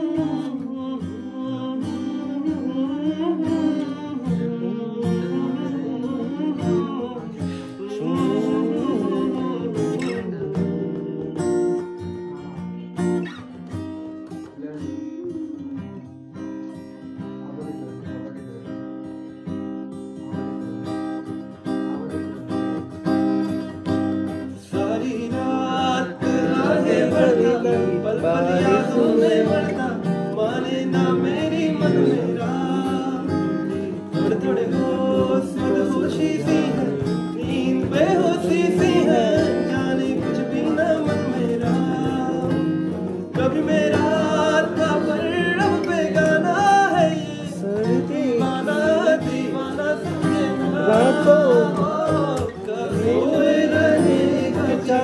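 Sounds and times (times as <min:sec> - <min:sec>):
acoustic guitar: 0:00.0 - 0:55.0
man singing: 0:00.0 - 0:55.0.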